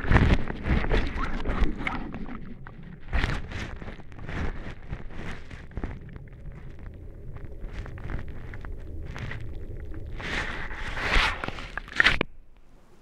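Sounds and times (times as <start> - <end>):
hydrophone clicks and knocks: 0.0 - 12.9
low underwater rumble: 0.0 - 12.9.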